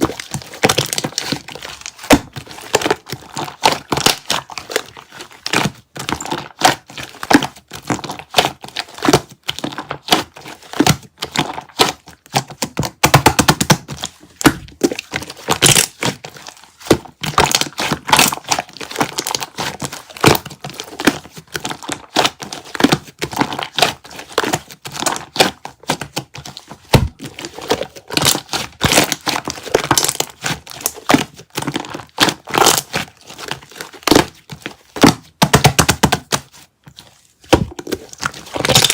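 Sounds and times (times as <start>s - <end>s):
hands squishing slime: 0.0s - 38.9s
sticky crackling and popping: 0.0s - 38.9s.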